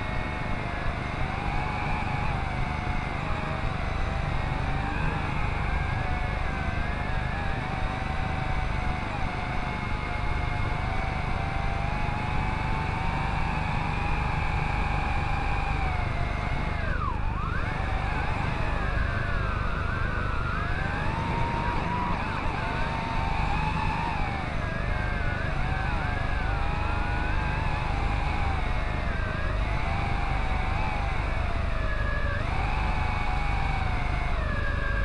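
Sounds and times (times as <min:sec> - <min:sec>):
drone motors whining: 0:00.0 - 0:35.0.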